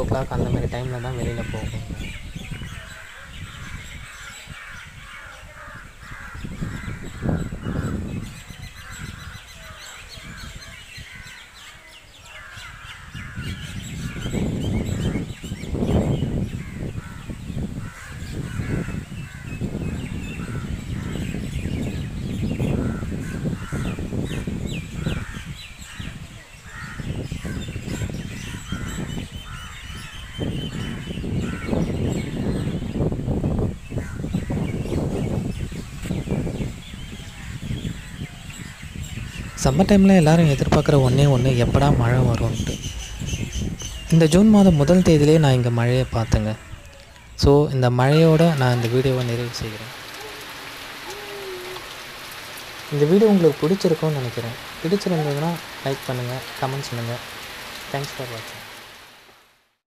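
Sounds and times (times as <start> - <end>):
chorus of birds calling: 0.0 - 59.3
crows cawing: 1.0 - 15.4, 16.4 - 32.8, 33.9 - 34.7, 41.0 - 59.0.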